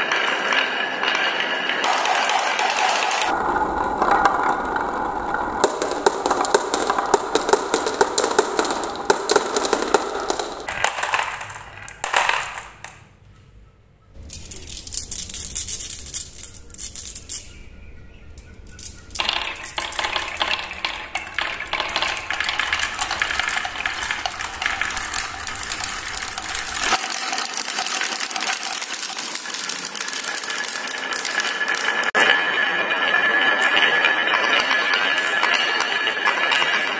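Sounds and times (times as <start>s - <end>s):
marbles dropping into plastic truck: 0.0s - 3.4s, 4.0s - 13.0s, 14.2s - 17.5s, 18.4s - 36.9s
marbles knocking metal bars ringing: 0.0s - 3.4s, 4.0s - 13.4s, 18.3s - 36.9s
marbles clattering on wooden tracks: 0.0s - 13.2s, 14.1s - 36.9s.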